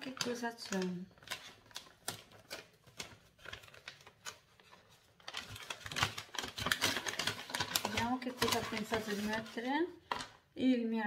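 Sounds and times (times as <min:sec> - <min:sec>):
packaging crinkling and clicking: 0:00.0 - 0:10.4.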